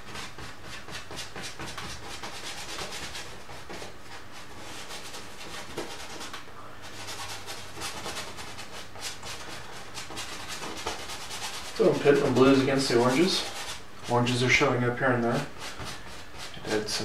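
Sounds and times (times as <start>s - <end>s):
paintbrush strokes on canvas: 0.0s - 17.0s.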